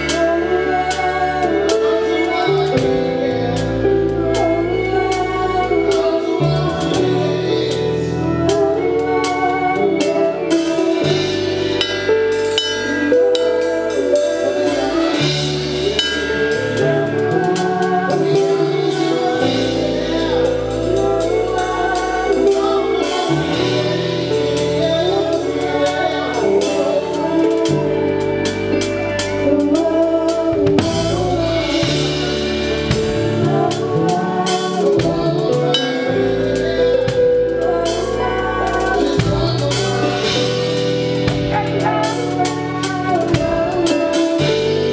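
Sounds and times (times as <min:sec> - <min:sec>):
bass line: 0:00.0 - 0:44.9
drum kit: 0:00.0 - 0:44.9
guitar: 0:00.0 - 0:44.9
people singing: 0:00.0 - 0:44.9.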